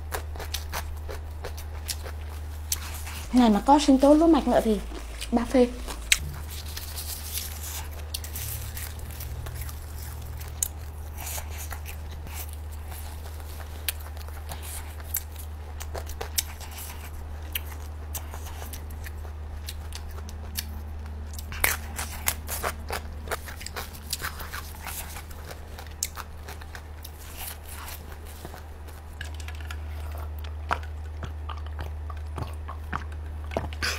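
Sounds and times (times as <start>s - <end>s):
close chewing and crunching: 0.0s - 33.9s.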